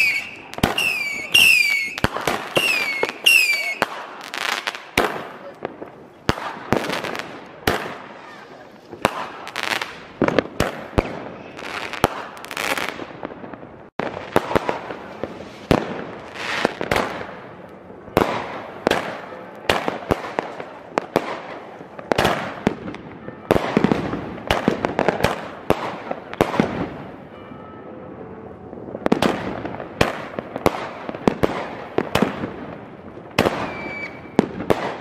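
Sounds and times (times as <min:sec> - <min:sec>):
fireworks hissing and crackling: 0:00.0 - 0:27.1, 0:29.0 - 0:35.0
fireworks bursting with bangs: 0:00.0 - 0:27.8, 0:28.7 - 0:35.0.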